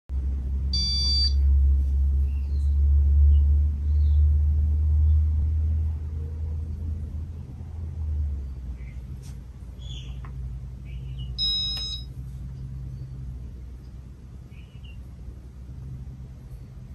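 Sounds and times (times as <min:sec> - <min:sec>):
ceiling fan rumbling: 0:00.1 - 0:16.9.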